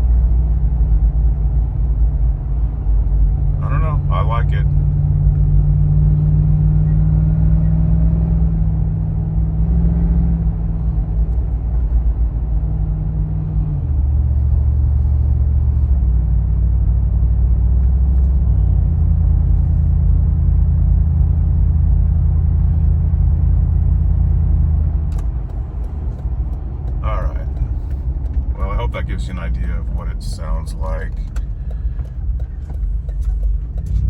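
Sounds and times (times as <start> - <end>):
car engine drone inside cabin: 0.0 - 34.0.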